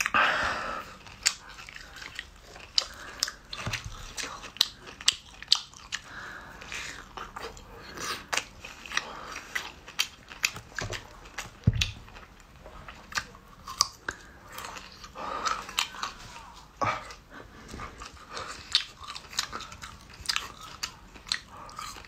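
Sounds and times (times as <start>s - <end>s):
wet chewing and biting: 0.9s - 22.0s
crunchy clicks of eating: 1.0s - 16.2s, 17.9s - 22.0s.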